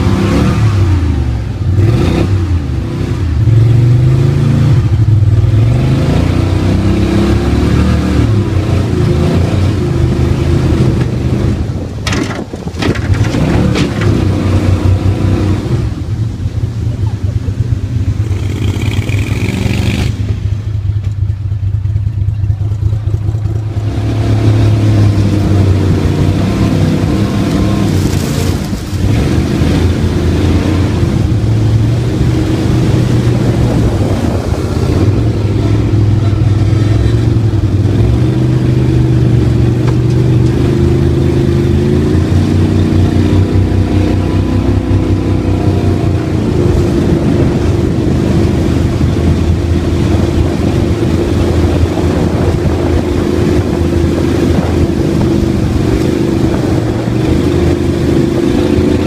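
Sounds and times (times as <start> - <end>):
boat mud motor running hard: 0.0 - 59.0.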